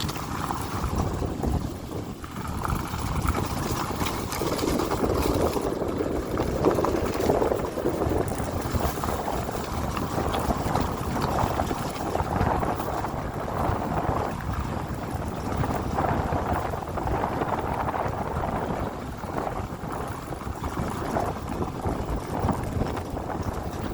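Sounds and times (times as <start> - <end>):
dirt bike engine running: 0.0 - 23.9
wind buffeting microphone: 0.0 - 23.9.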